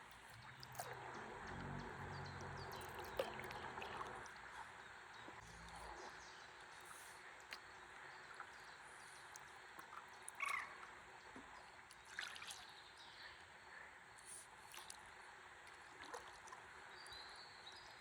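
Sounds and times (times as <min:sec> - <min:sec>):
river water trickling: 0:00.0 - 0:18.0.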